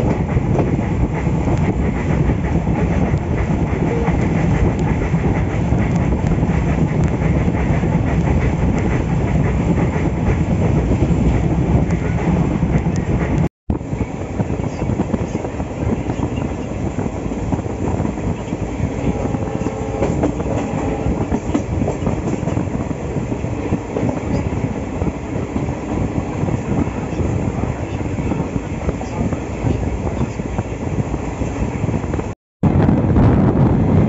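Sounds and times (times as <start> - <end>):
train coach rumble: 0.0 - 34.0.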